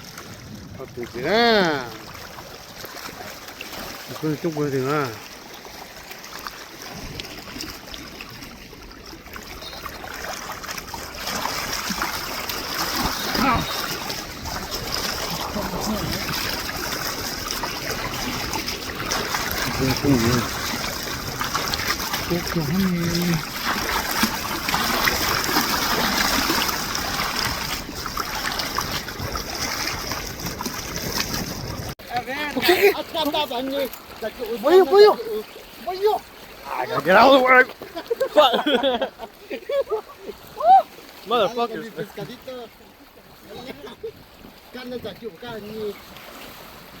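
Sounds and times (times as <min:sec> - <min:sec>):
small waves lapping: 0:00.0 - 0:47.0
water splashing and trickling: 0:00.0 - 0:47.0.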